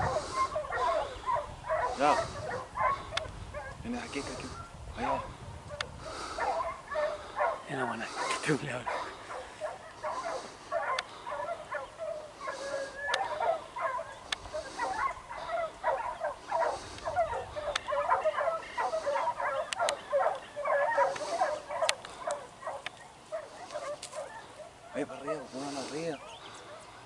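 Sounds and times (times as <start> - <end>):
dogs baying and yelping: 0.0 - 27.0.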